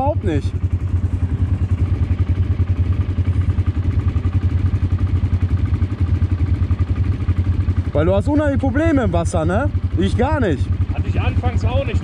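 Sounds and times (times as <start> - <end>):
quad bike engines idling: 0.0 - 12.0.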